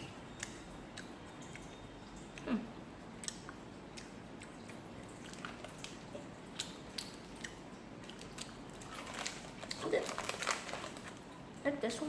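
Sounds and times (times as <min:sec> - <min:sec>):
jelly bean being chewed: 0:00.0 - 0:11.4.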